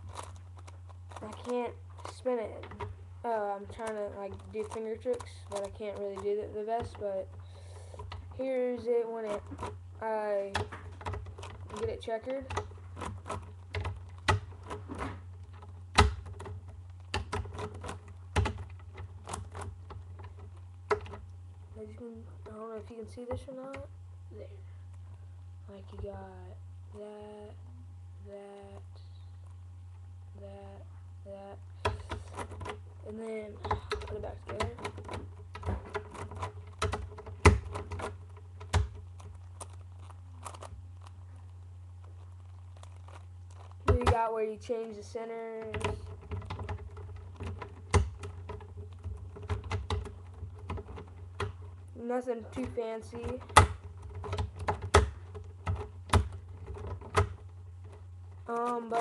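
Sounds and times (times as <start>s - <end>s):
puzzle cube clicking: 0.0s - 3.0s, 3.6s - 9.8s, 10.4s - 21.4s, 31.8s - 59.0s
steady low hum: 0.0s - 59.0s.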